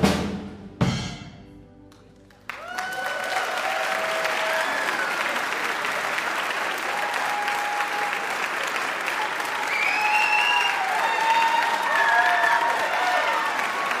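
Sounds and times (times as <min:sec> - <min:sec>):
audience clapping: 0:01.9 - 0:14.0
cheers: 0:02.5 - 0:14.0.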